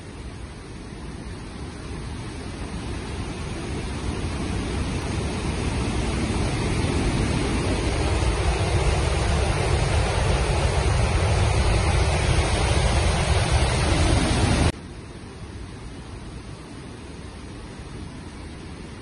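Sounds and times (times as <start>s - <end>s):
water rushing through spillway: 0.0s - 19.0s.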